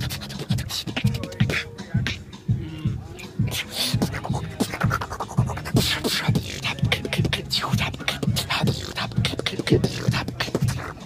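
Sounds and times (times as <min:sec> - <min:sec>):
beatboxing: 0:00.0 - 0:11.0.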